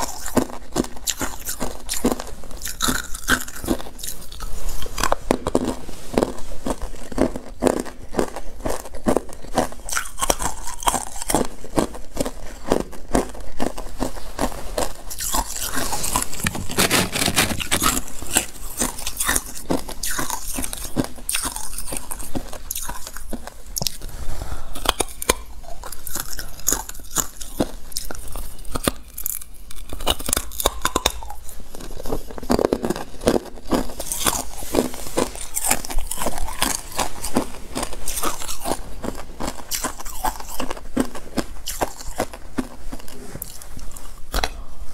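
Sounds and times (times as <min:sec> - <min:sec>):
ice crunching while chewed: 0:00.0 - 0:44.9.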